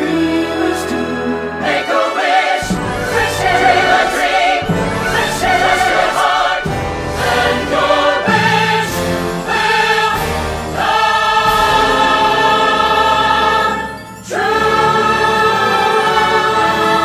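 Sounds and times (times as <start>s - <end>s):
choir and orchestra music: 0.0s - 17.0s.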